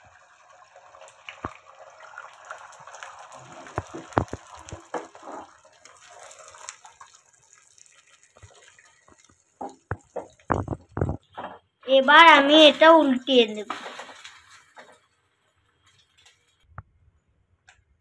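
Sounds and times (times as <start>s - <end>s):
egg sizzling in oil: 0.0s - 11.4s, 12.0s - 16.6s
oil crackling and popping: 0.0s - 16.7s.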